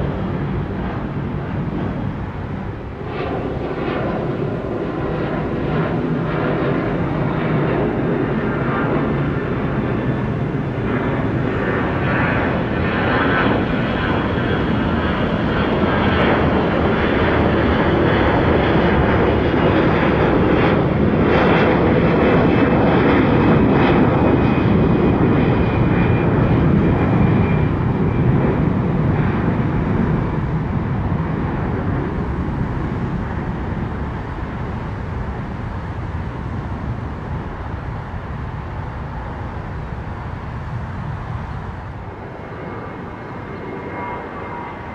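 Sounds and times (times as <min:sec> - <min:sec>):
jet airliner engines passing: 0:00.0 - 0:44.9.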